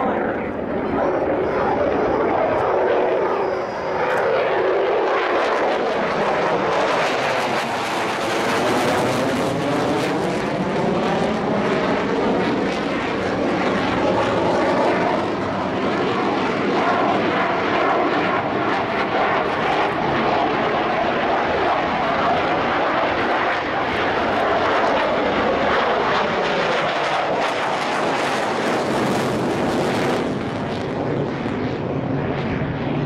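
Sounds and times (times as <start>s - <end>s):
fighter jet flying past: 0.0s - 33.0s.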